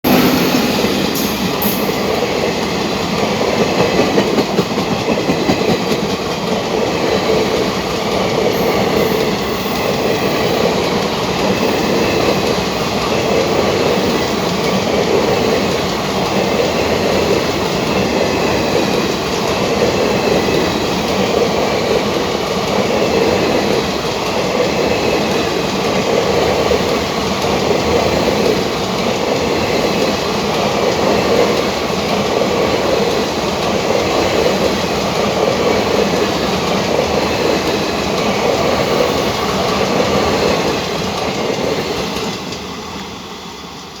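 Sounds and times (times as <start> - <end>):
train wheels rattling on rails: 0.0 - 44.0.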